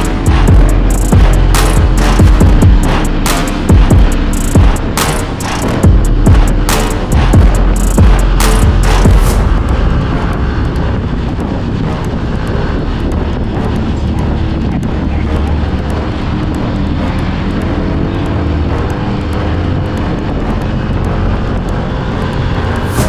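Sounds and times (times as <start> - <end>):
motorcycle engine drone: 0.0 - 23.0
wind rush on microphone: 0.0 - 23.0.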